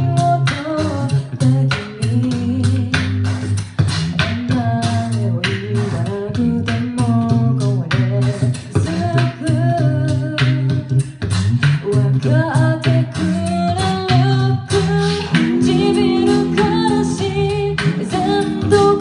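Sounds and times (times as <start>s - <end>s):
a cappella group singing: 0.0s - 3.6s, 4.2s - 11.0s, 11.6s - 19.0s
beatboxing: 0.0s - 19.0s.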